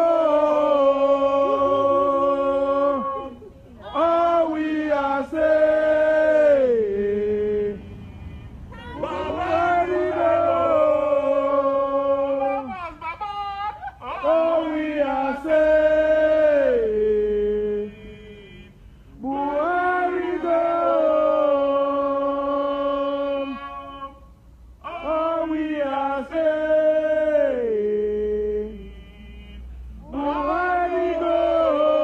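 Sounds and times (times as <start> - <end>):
crowd singing a chant: 0.0 - 8.2, 8.8 - 12.7, 14.1 - 24.2, 24.8 - 32.0.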